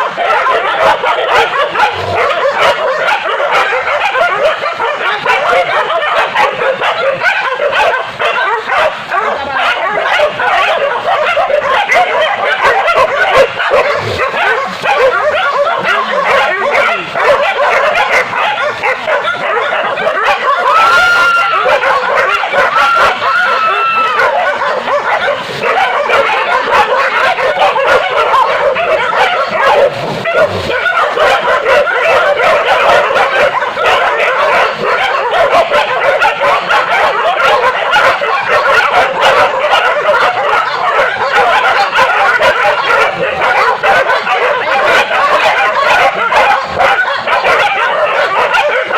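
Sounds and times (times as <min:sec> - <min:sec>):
dogs barking and yelping: 0:00.0 - 0:48.9
dogs whining: 0:00.0 - 0:48.9.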